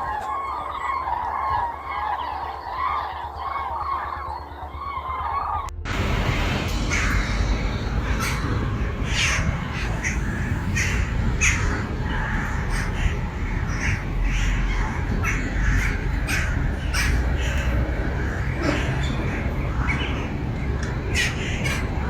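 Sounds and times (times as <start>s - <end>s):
flock of birds calling: 0.0s - 22.0s
steady low rumble: 0.0s - 22.0s.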